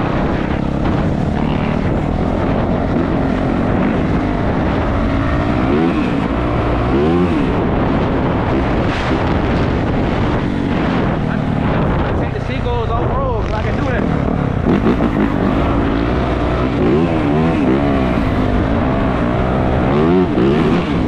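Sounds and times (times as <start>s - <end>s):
dirt bike engine revving: 0.0s - 21.0s
wind noise on microphone: 0.0s - 21.0s.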